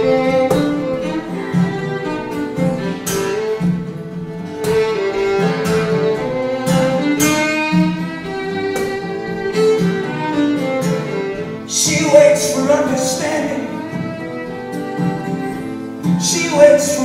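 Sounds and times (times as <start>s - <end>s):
fiddle playing melody: 0.0s - 17.0s
strummed guitar: 0.0s - 17.0s.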